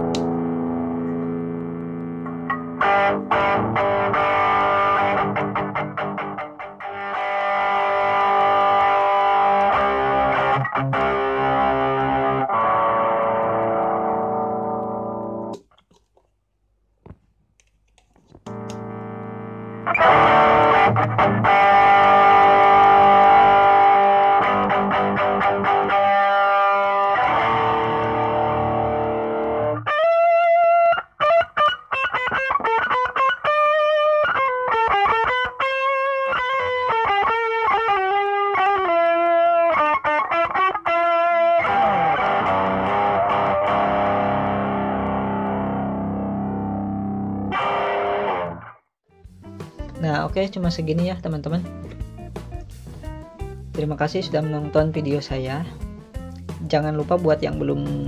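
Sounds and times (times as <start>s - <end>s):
distorted electric guitar chords: 0.0s - 15.6s, 18.4s - 58.0s
picked guitar notes: 0.0s - 16.0s, 18.4s - 58.0s.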